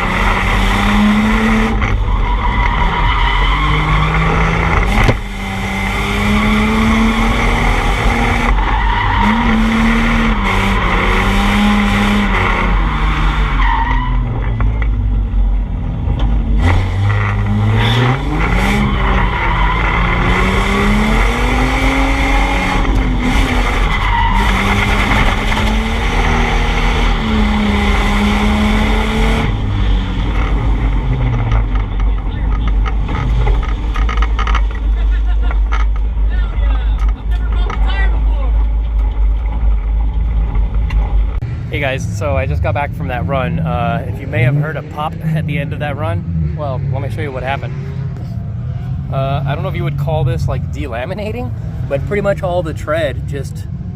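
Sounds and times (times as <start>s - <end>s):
car engine revving: 0.0s - 53.9s
tyres skidding and squealing: 0.0s - 53.9s.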